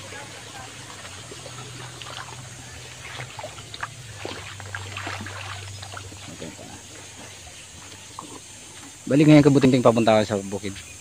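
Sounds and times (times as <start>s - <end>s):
light water drips: 0.0s - 9.1s
creek trickling: 0.0s - 11.0s.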